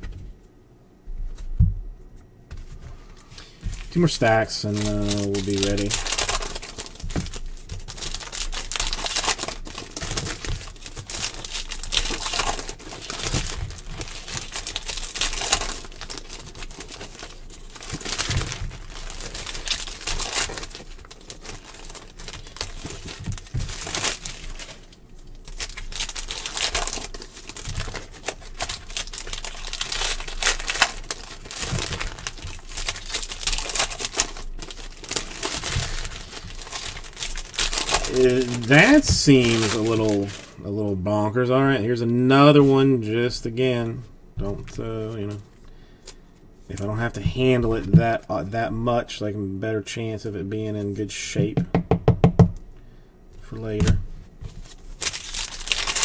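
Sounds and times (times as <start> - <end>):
foil wrappers crinkling: 2.7 - 48.6, 53.6 - 56.0.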